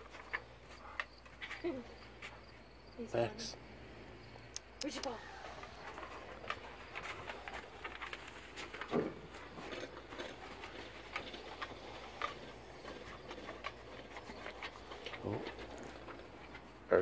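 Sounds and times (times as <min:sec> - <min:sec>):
dog paws clicking on wooden deck: 0:00.0 - 0:02.3, 0:04.8 - 0:17.0.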